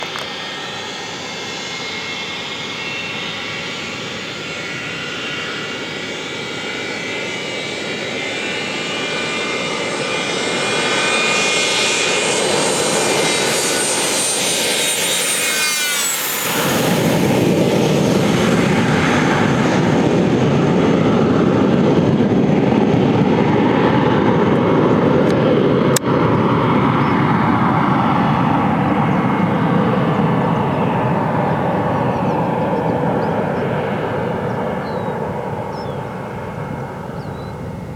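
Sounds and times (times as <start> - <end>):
deep jet noise: 0.0 - 37.9
jet engine whine: 0.0 - 37.9.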